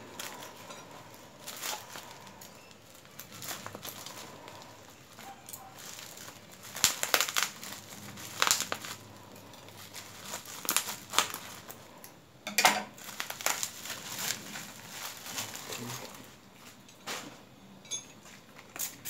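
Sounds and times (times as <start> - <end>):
bubble wrap crinkling: 0.0 - 12.0, 12.9 - 17.2.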